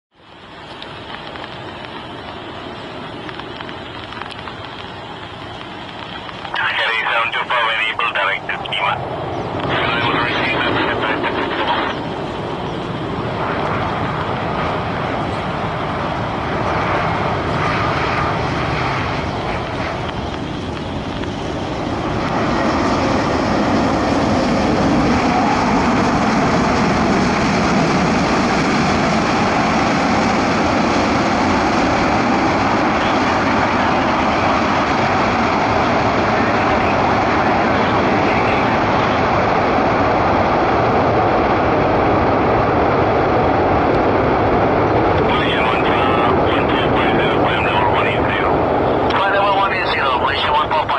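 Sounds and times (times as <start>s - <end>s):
jet aircraft landing: 0.1s - 50.9s.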